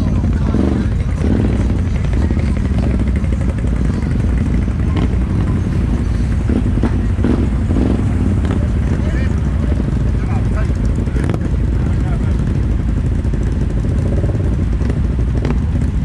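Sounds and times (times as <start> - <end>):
off-road engines idling: 0.0 - 16.0.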